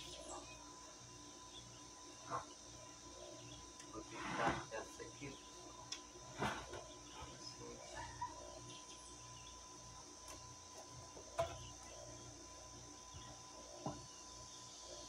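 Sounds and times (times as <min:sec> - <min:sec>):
faint high insect drone: 0:00.0 - 0:15.0.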